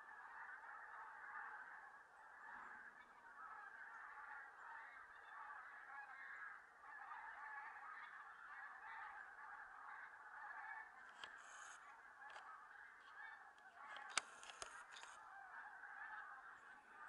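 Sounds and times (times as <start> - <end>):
distant geese honking: 0.0 - 17.0.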